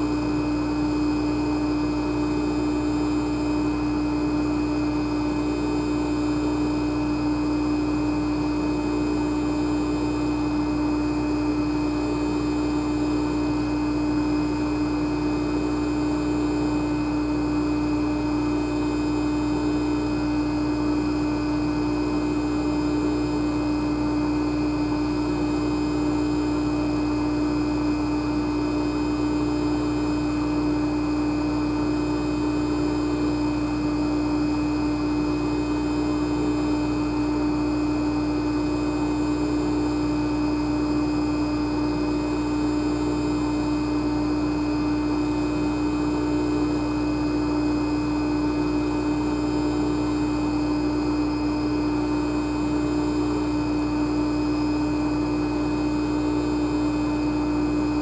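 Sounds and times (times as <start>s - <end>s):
jacuzzi motor hum: 0.0s - 58.0s.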